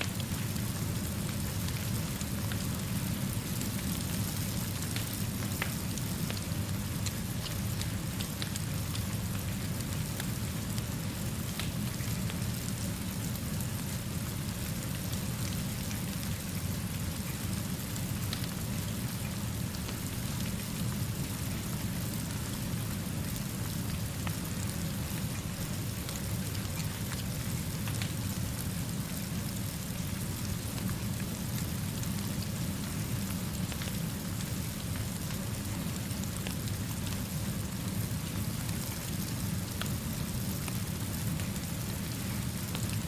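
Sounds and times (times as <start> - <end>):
fire crackling: 0.1 - 43.0.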